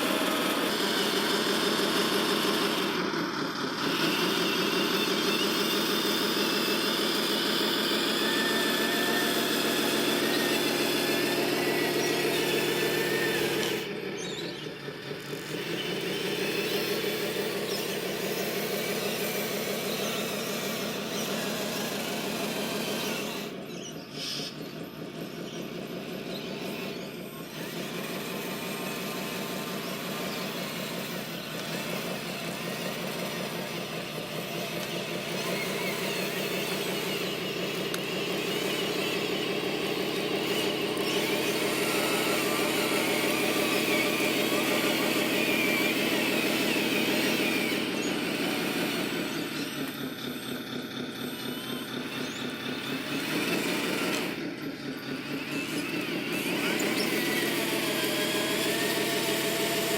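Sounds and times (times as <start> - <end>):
toy vehicle motor hum with whine: 0.0 - 59.9.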